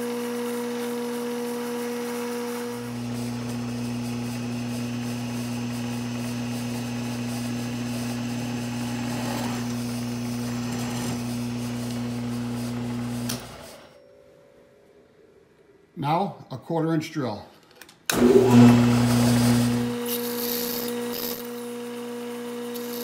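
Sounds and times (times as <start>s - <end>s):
drill cutting into steel: 0.0s - 13.9s, 18.1s - 23.0s
milling machine motor hum: 0.0s - 13.9s, 18.1s - 23.0s.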